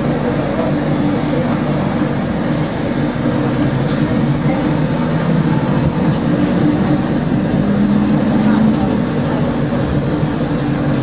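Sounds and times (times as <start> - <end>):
tram running along track: 0.0 - 11.0.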